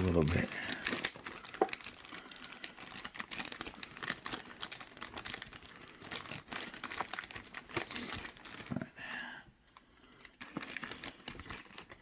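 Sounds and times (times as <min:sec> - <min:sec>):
plastic wrapping crinkling: 0:00.0 - 0:09.0, 0:09.6 - 0:12.0.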